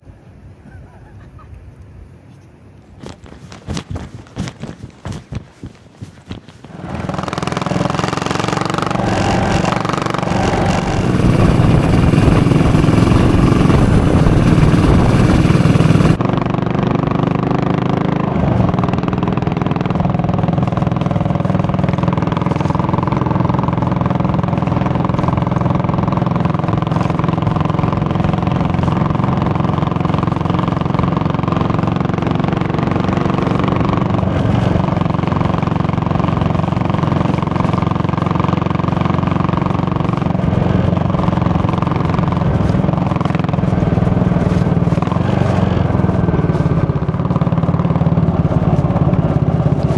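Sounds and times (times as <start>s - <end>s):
motorcycle engine running: 3.7s - 49.9s.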